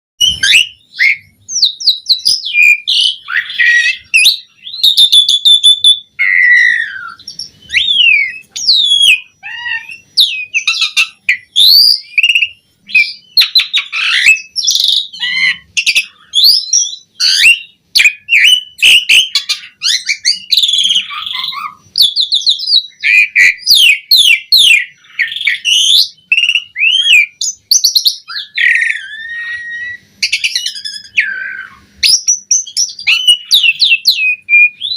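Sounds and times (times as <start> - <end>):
starling singing: 0.2 - 34.9.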